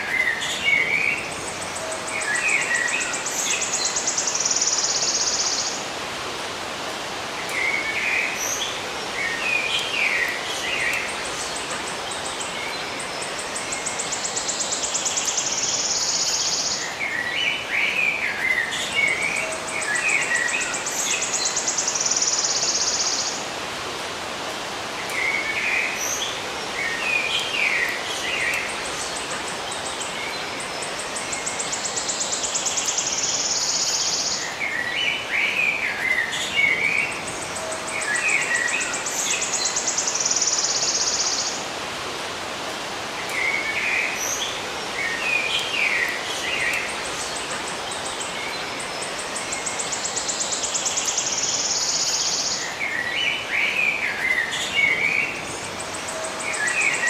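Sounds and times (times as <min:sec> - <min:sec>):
background hiss: 0:00.0 - 0:57.0
songbirds chirping: 0:00.0 - 0:57.0.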